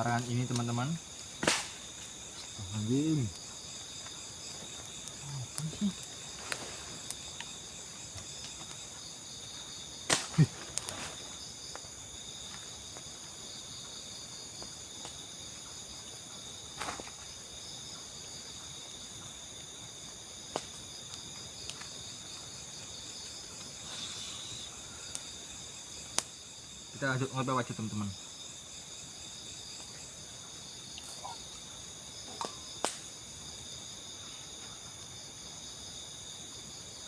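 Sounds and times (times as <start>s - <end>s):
night insects chorus: 0.0s - 37.0s.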